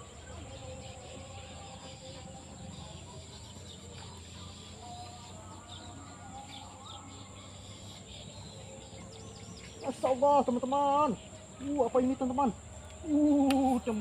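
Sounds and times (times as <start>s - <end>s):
bird chirps: 0.0s - 14.0s
high insect drone: 0.0s - 14.0s.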